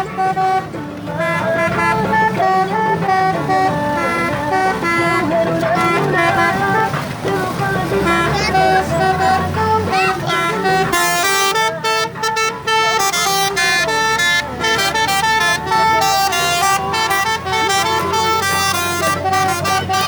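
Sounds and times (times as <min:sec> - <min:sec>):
multi-tone horn playing a tune: 0:00.0 - 0:20.0.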